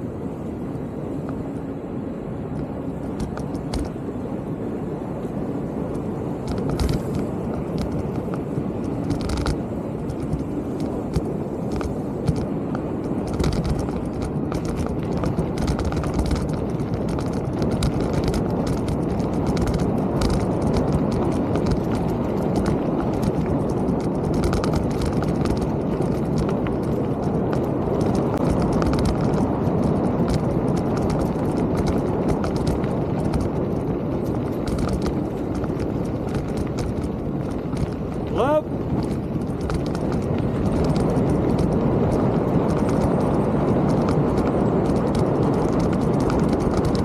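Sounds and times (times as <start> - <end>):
tyre and wind noise: 0.0 - 47.0
bike rattling and knocking: 3.0 - 4.0, 6.4 - 47.0.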